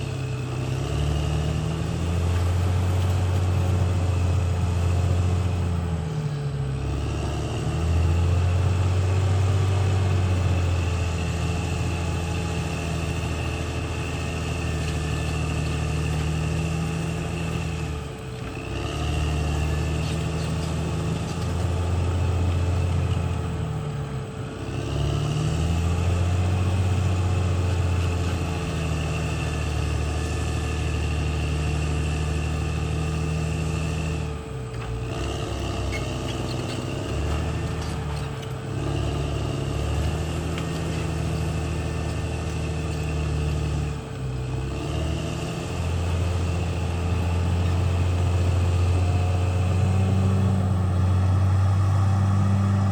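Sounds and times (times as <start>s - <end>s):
bulldozer diesel engine under load: 0.0s - 52.9s.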